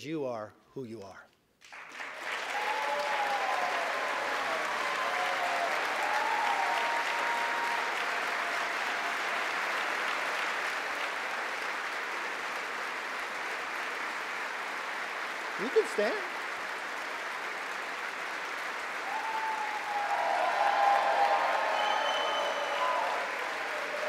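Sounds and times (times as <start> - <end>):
crowd applauding: 1.6 - 24.0.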